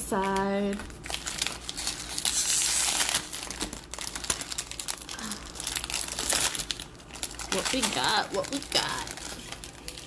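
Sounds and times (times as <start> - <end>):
wrapper and cards rustling: 0.1 - 10.0.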